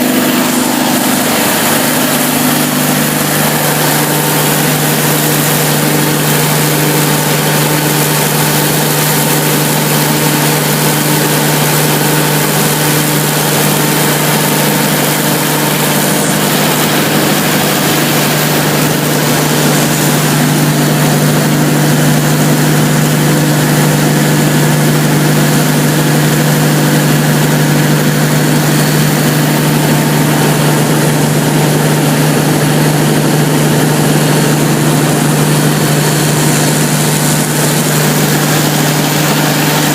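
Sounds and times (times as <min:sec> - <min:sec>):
diesel generator engine droning: 0:00.0 - 0:39.9.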